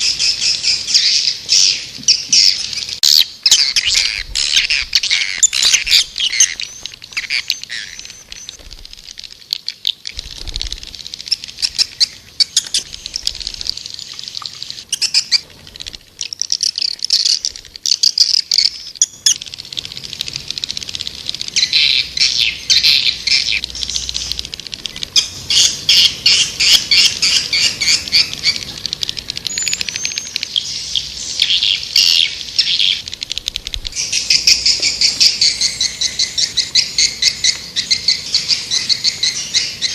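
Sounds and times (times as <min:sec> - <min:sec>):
swiftlets chirping twitter: 0:00.0 - 0:39.9.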